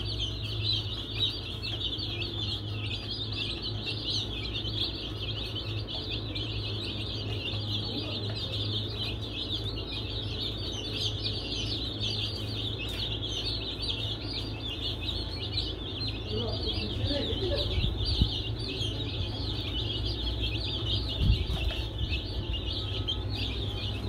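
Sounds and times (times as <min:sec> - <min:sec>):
baby chicks peeping: 0:00.0 - 0:24.0
steady low hum: 0:00.0 - 0:24.0.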